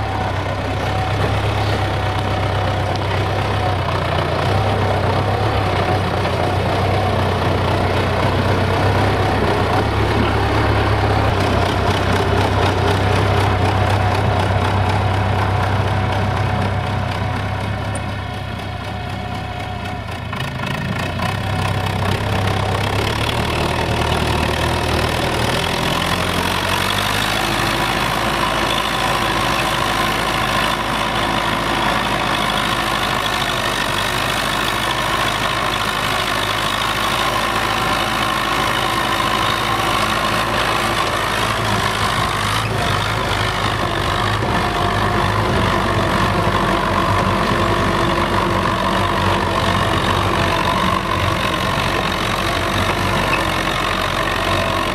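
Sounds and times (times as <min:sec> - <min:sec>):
tractor diesel engine: 0:00.0 - 0:54.9.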